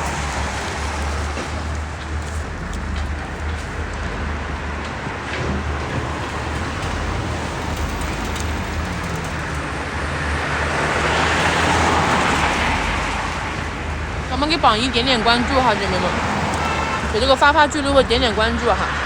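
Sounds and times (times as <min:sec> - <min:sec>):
passing cars rumble: 0:00.0 - 0:19.0
vehicle passing loudly: 0:00.0 - 0:19.0.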